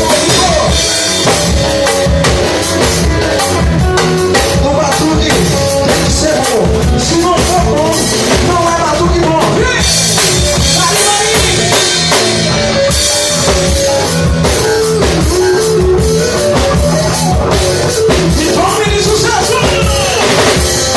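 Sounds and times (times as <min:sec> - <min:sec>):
drum kit beat: 0:00.0 - 0:20.9
rock band music: 0:00.0 - 0:20.9.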